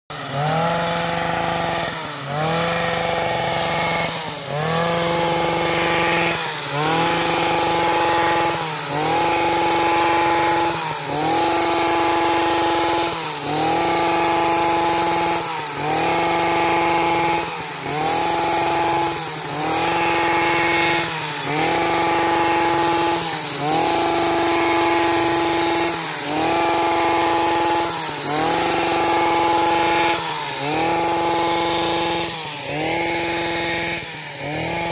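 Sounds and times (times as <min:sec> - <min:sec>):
small two-stroke engine revving: 0:00.1 - 0:34.9.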